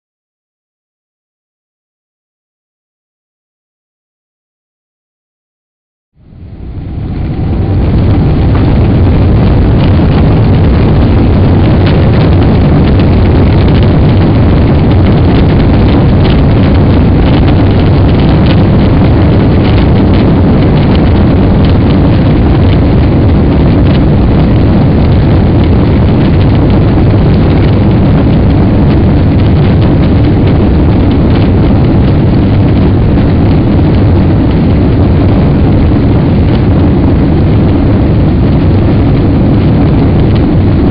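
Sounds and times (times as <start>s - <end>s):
jet engines roaring at takeoff: 6.2s - 40.9s.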